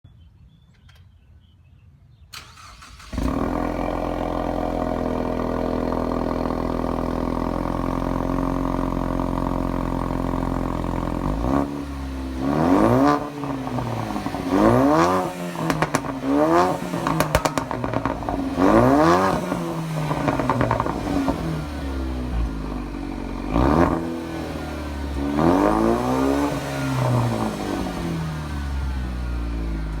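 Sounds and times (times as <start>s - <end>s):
car engine idling and revving: 2.4s - 30.0s.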